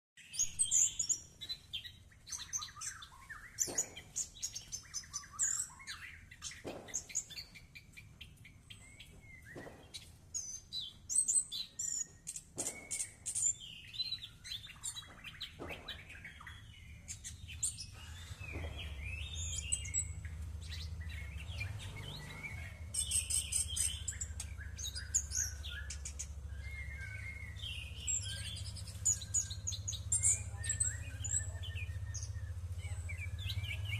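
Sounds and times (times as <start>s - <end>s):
songbird chirping: 0.2s - 33.9s.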